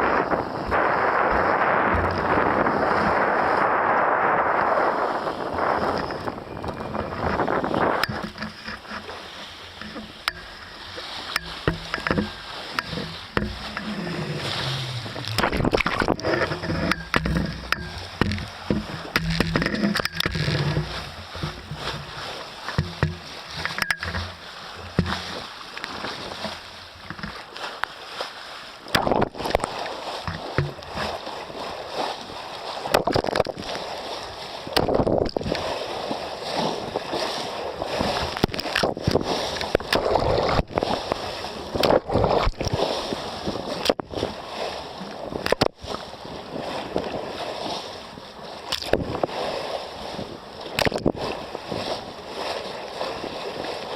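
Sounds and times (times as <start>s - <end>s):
water rushing along a hull: 0.0s - 53.9s.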